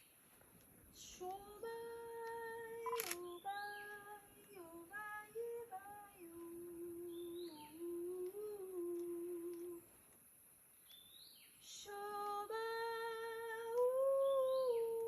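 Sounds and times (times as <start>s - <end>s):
woman singing wordless held notes: 0.9s - 10.0s, 11.6s - 15.0s.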